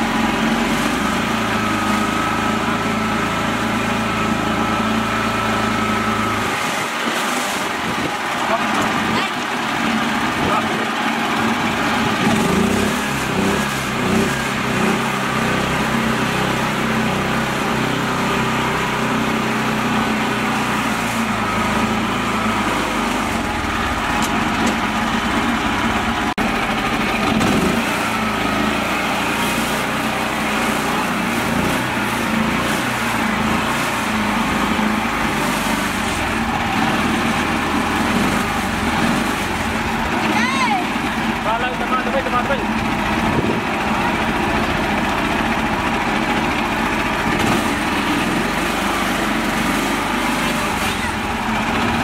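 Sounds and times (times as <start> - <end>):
small tractor engine running: 0.0 - 52.0.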